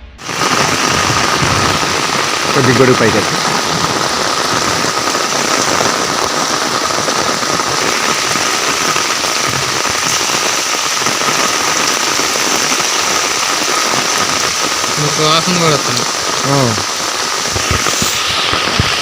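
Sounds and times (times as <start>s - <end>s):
heavy rain falling: 0.2s - 19.0s.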